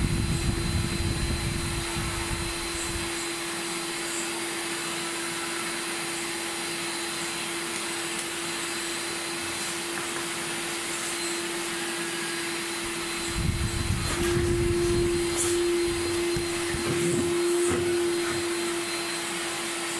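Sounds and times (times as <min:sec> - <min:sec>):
shop vacuum running: 0:00.0 - 0:19.9.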